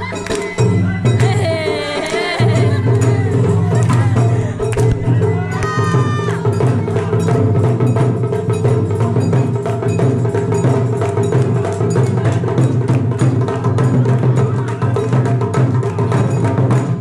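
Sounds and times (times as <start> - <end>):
drum ensemble playing: 0.0 - 17.0.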